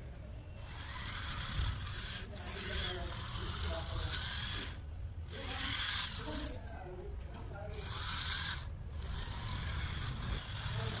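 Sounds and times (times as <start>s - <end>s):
rubber tyres scrubbing on plywood: 0.6s - 6.4s, 7.7s - 11.0s.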